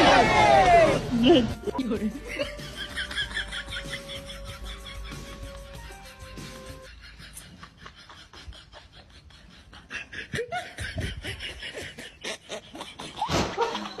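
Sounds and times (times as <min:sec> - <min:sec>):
laughter-like vocalising: 0:01.6 - 0:14.0.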